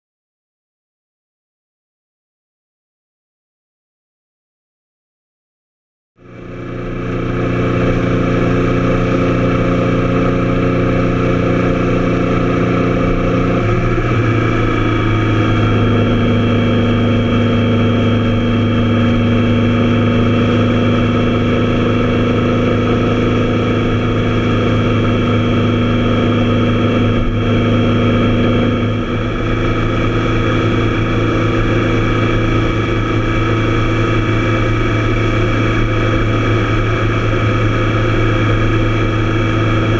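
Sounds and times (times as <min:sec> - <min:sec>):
motorcycle engine running: 0:06.2 - 0:39.9.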